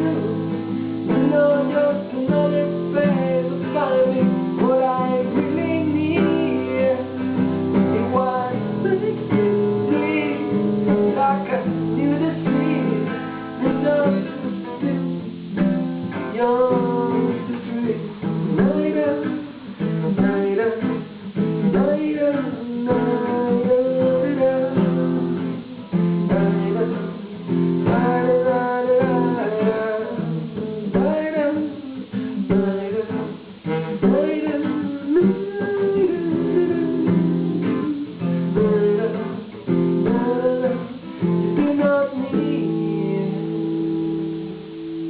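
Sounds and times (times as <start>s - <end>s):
acoustic guitar picking: 0.0s - 45.0s.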